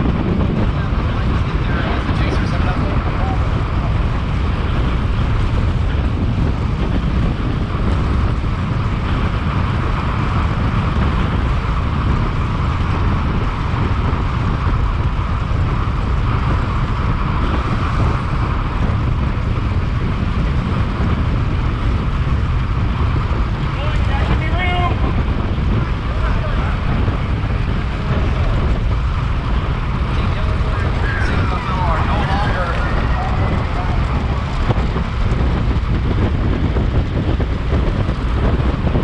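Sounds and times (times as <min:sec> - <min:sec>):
wind noise on microphone: 0:00.0 - 0:39.0.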